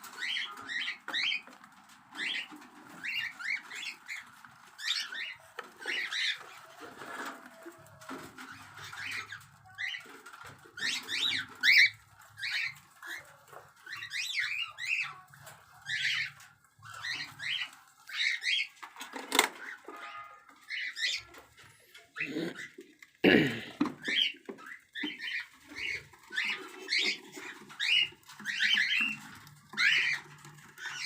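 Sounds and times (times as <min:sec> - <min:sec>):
cockatiels chirping: 0:00.0 - 0:06.6, 0:08.4 - 0:18.8, 0:19.5 - 0:22.8, 0:24.0 - 0:31.0.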